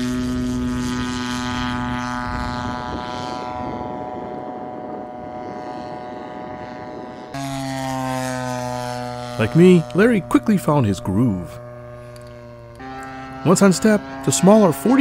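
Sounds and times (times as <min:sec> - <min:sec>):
model airplane engine and propeller: 0:00.0 - 0:15.0.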